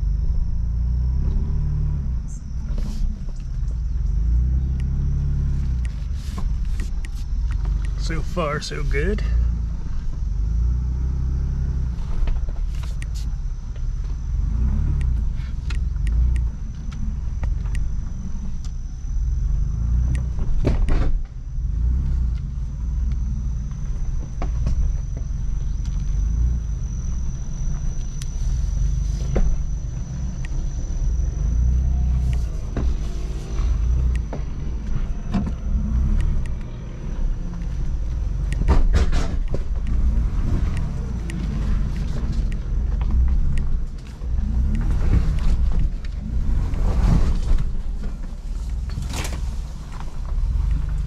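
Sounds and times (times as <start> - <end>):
engine and tyre rumble: 0.0 - 51.0.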